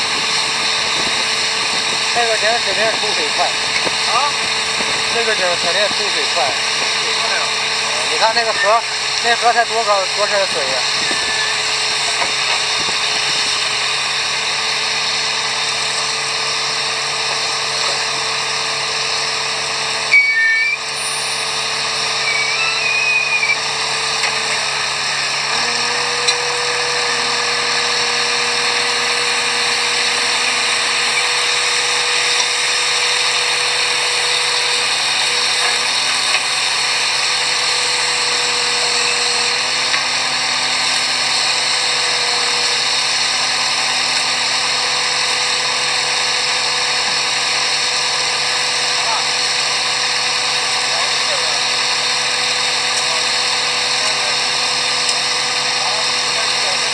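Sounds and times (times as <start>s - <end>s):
drilling rig running: 0.0s - 56.9s.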